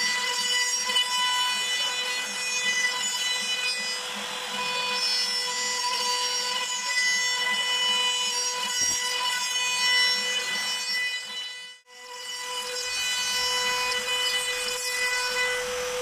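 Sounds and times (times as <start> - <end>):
router bit rasping through wood: 0.0 - 16.0
router motor whine: 0.0 - 16.0.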